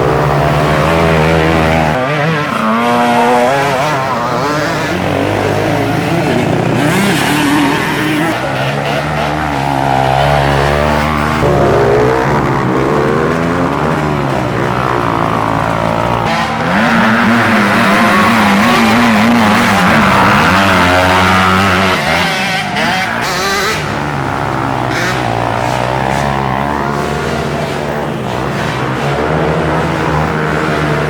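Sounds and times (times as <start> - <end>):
atv engines revving: 0.0 - 31.0.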